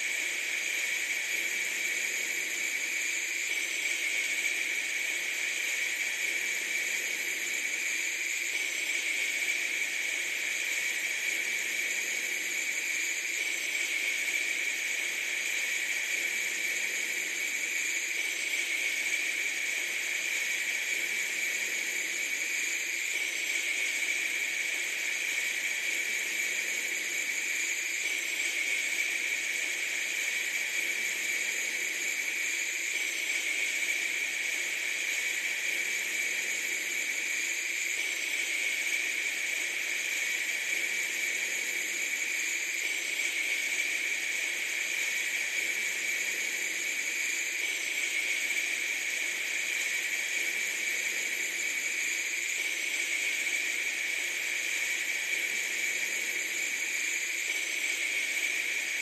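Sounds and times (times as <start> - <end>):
steady hissing noise: 0.0 - 59.0.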